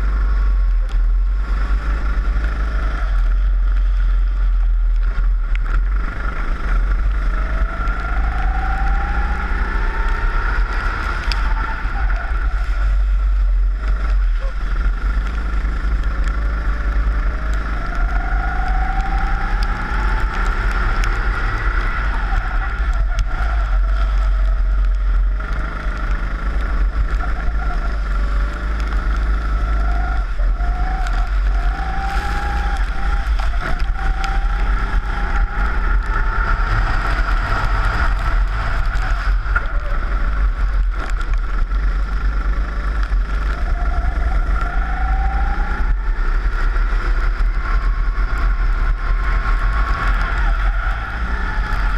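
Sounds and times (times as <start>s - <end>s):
low rumble on microphone: 0.0s - 51.9s
kart engine revving: 5.7s - 51.9s.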